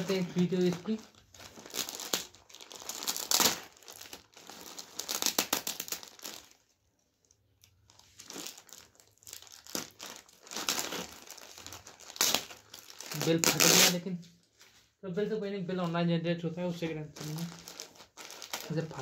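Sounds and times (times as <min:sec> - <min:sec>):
plastic mailer bag crinkling and tearing: 0:00.0 - 0:14.1, 0:16.9 - 0:19.0.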